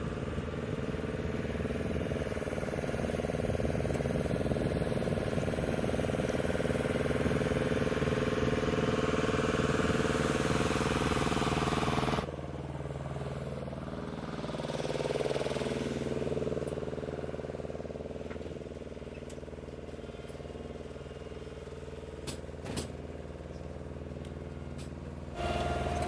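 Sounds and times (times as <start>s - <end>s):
engine running: 0.0s - 26.0s
quieter engine sound: 0.0s - 26.0s.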